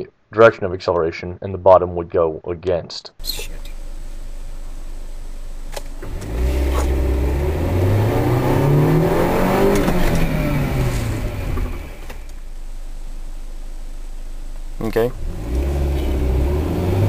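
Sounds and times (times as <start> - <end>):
car engine accelerating: 3.2 - 17.0.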